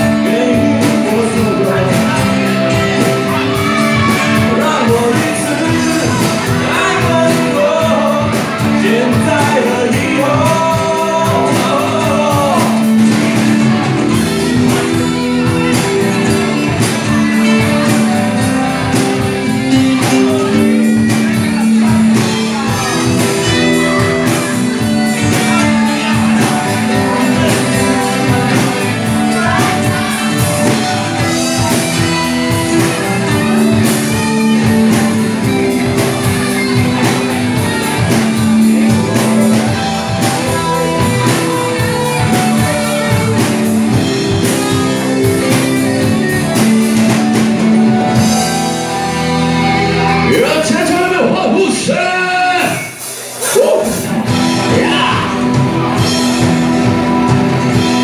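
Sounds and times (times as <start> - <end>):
person singing: 0.0 - 56.5
live rock band playing: 0.0 - 58.0.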